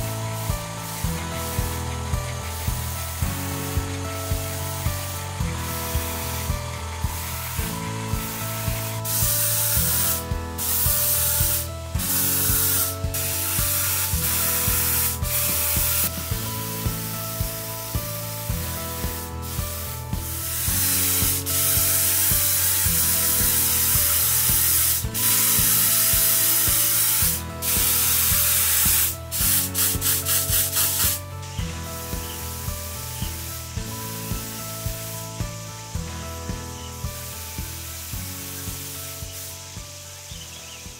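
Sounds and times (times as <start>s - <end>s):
spray gun hissing: 0.0s - 31.5s, 36.8s - 40.3s
background music: 0.0s - 40.9s.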